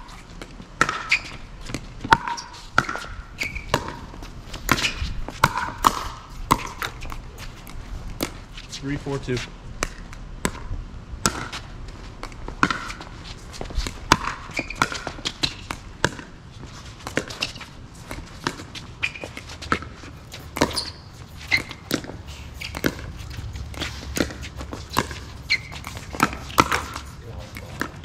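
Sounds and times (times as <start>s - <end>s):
ball bouncing on court: 0.4s - 8.4s, 9.8s - 11.6s, 12.2s - 13.1s, 13.8s - 16.4s, 17.0s - 28.0s.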